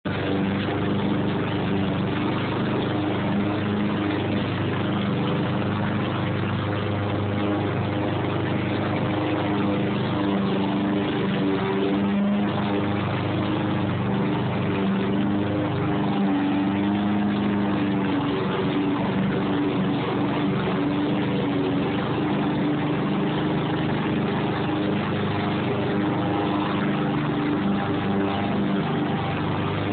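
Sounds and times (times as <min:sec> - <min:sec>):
lawnmower engine running: 0:00.0 - 0:29.9.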